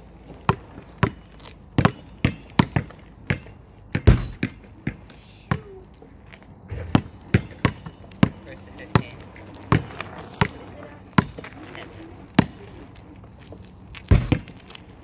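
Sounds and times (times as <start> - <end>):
ball bouncing on asphalt: 0.2 - 15.0.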